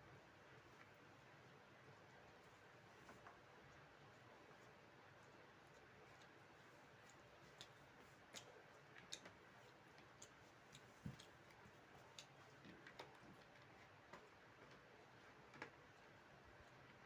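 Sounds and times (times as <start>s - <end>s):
soft eating clicks and smacks: 0.4s - 17.0s.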